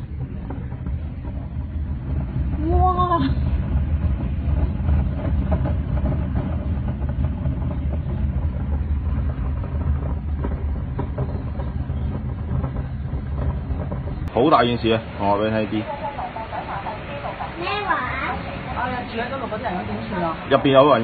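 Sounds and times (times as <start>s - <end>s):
faint rattles: 0.0s - 21.0s
strong wind blowing: 0.0s - 21.0s.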